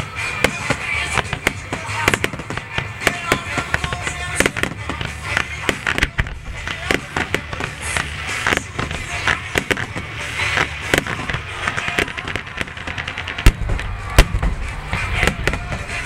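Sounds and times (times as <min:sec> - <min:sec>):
fireworks bangs and crackles: 0:00.0 - 0:16.0
loud firework booms: 0:00.4 - 0:16.0.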